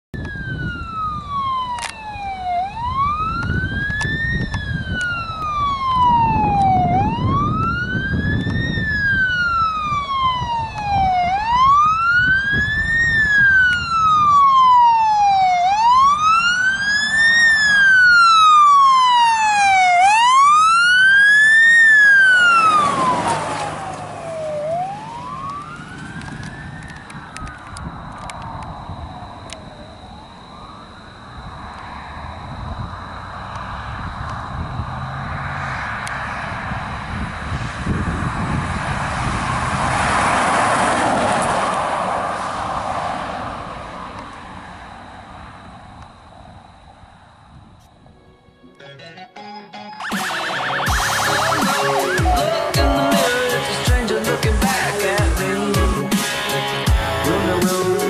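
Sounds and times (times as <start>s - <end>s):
vehicle rumble: 0.2s - 49.1s, 50.8s - 58.0s
siren wailing: 0.2s - 58.0s.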